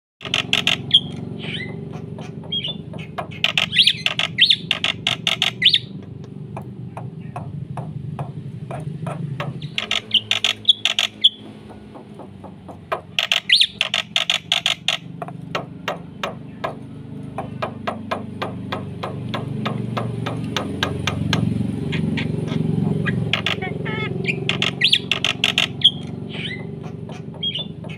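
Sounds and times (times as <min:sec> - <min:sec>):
bird chattering: 0:00.2 - 0:27.9
bird singing: 0:00.2 - 0:27.9.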